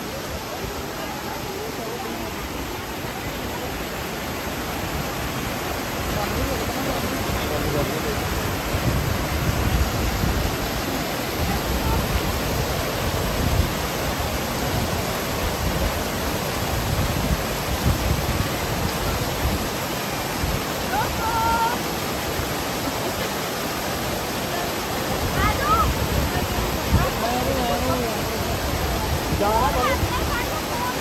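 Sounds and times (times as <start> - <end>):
stream rushing over boulders: 0.0 - 31.0.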